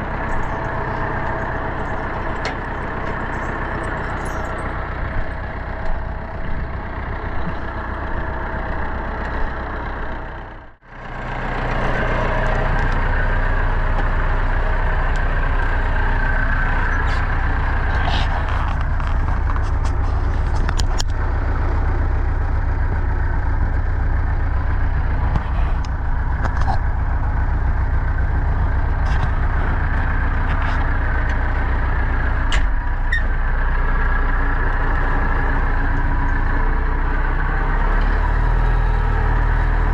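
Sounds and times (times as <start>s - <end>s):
tractor diesel engine rumbling: 0.0s - 39.9s.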